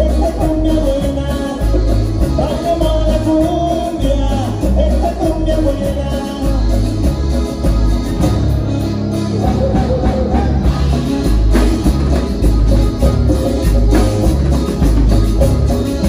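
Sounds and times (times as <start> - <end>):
band playing dance music: 0.0 - 16.0.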